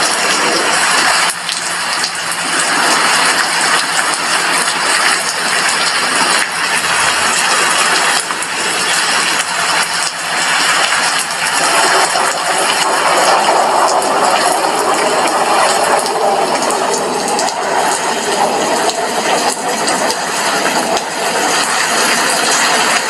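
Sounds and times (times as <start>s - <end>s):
heavy rain on a glass window: 0.0s - 23.0s.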